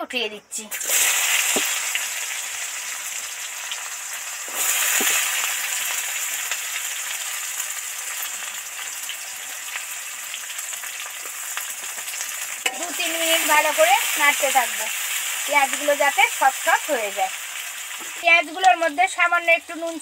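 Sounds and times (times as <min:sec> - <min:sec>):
onions sizzling in hot oil: 0:00.5 - 0:20.0.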